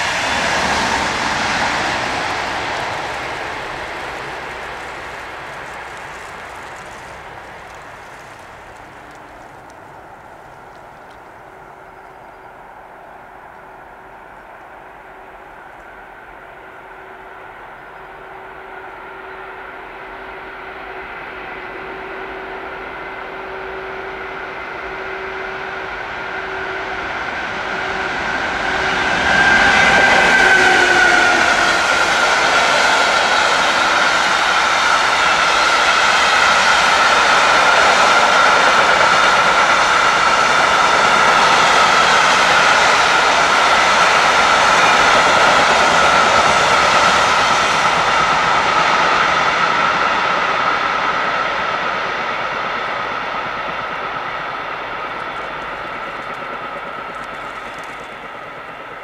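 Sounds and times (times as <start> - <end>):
electric train passing: 0.0 - 59.0
wheels rolling on rail: 0.0 - 59.0.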